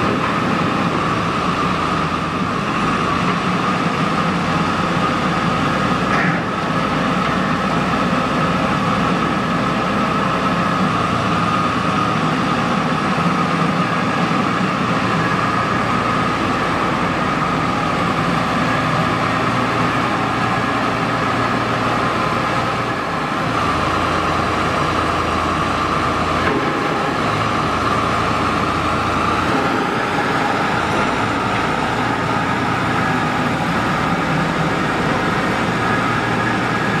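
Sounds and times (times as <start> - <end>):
diesel engine and hydraulics running: 0.0 - 37.0.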